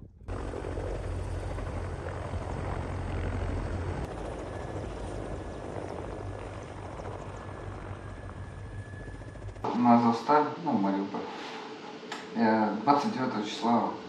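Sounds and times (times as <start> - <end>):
helicopter rotor throb: 0.0 - 14.0.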